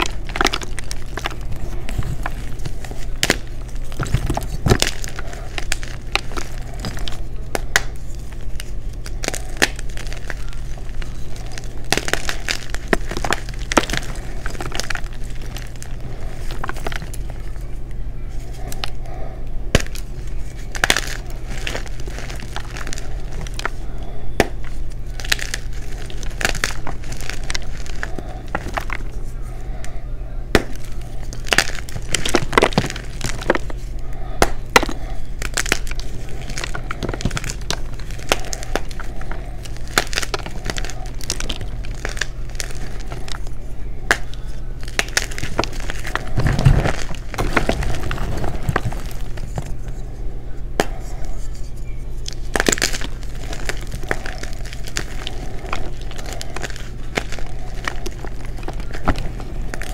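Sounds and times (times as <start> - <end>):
chalk cracking and crunching: 0.0 - 59.9
soft crumbling: 0.0 - 59.9
steady low hum: 0.0 - 59.9.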